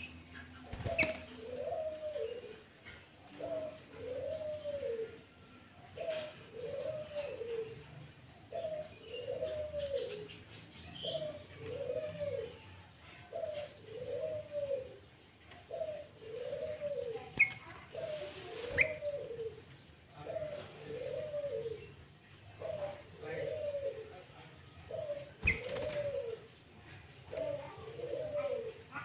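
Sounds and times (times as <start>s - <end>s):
dove cooing: 0.0s - 29.0s.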